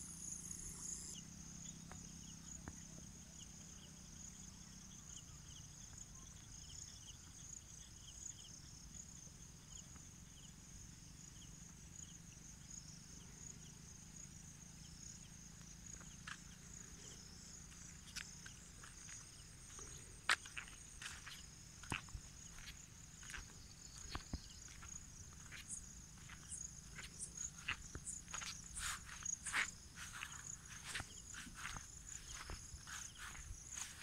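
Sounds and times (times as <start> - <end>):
insect chirp: 0.0 - 34.0
insects trilling: 0.0 - 34.0.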